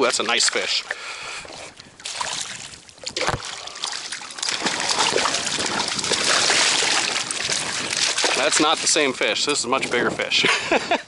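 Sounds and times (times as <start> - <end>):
water splashing: 0.0 - 10.3.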